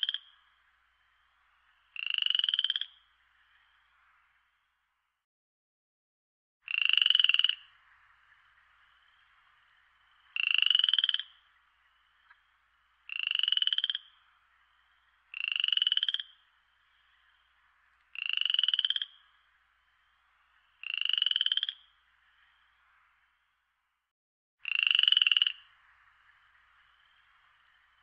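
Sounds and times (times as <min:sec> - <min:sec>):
frog trilling calls: 0:00.0 - 0:03.9, 0:06.7 - 0:22.7, 0:24.6 - 0:28.0.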